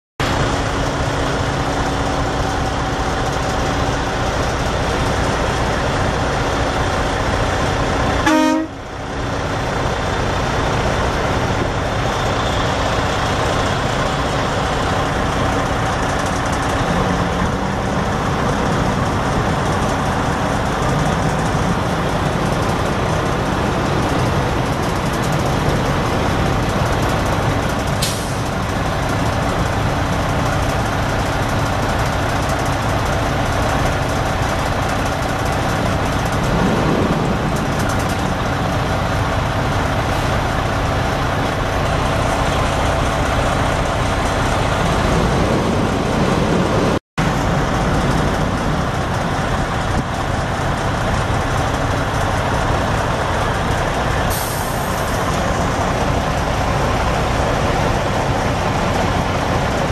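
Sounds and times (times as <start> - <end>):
diesel truck engine running: 0.2 - 59.9.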